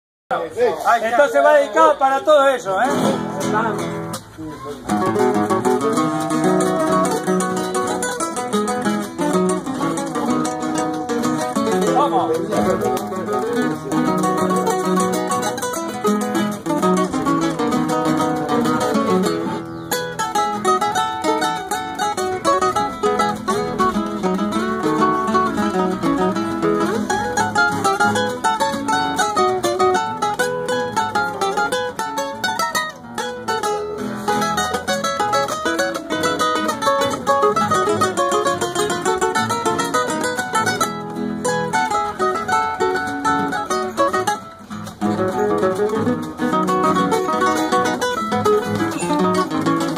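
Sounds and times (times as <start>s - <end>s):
classical guitars playing folk dance: 0.3s - 49.9s.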